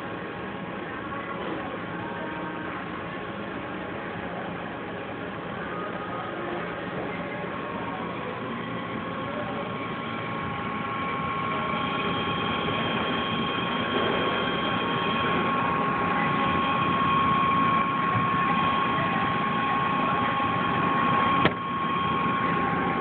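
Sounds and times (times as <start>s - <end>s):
machine hum with high whine: 0.0s - 23.0s.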